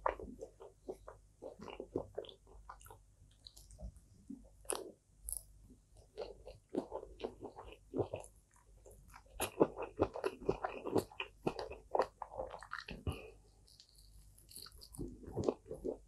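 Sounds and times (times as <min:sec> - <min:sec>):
chewing crispy food: 0:00.0 - 0:16.0.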